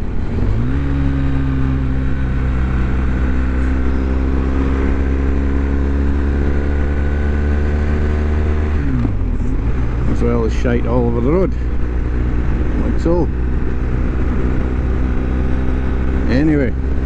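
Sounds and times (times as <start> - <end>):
motorcycle engine cruising: 0.0 - 17.0
wind and road noise: 0.0 - 17.0.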